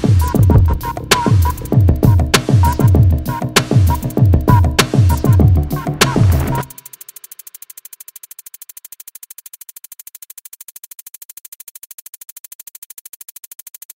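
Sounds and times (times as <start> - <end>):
fast synth pulse: 0.0 - 13.9.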